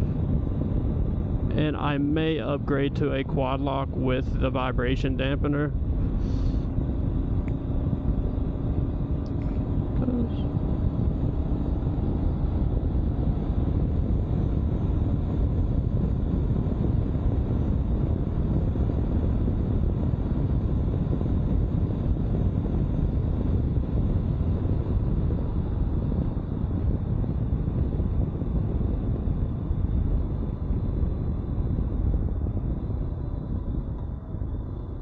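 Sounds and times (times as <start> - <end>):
wind rush: 0.0 - 35.0.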